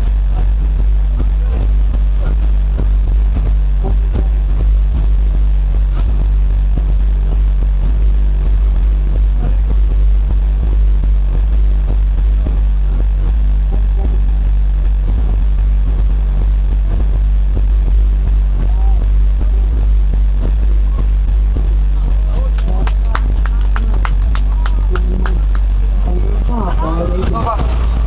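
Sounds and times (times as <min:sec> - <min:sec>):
subwoofers deep bass tone: 0:00.0 - 0:28.0.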